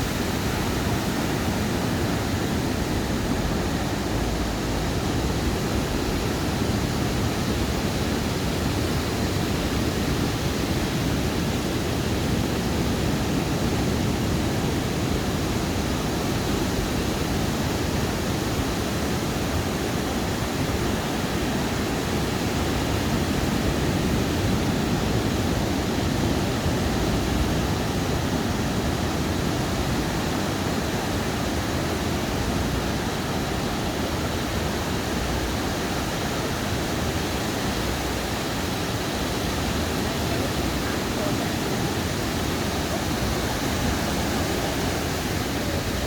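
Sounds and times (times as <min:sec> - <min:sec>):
surf washing on beach: 0:00.0 - 0:46.0.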